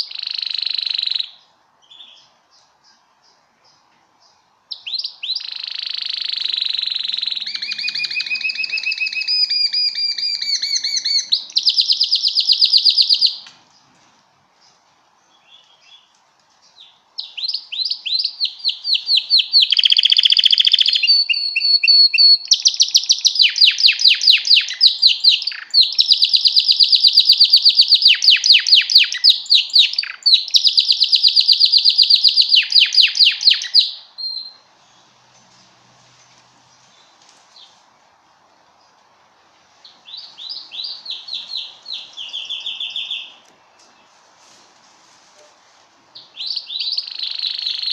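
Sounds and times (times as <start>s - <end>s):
canary singing trills: 0.0s - 14.0s, 15.3s - 35.3s, 39.8s - 44.1s, 46.2s - 47.9s.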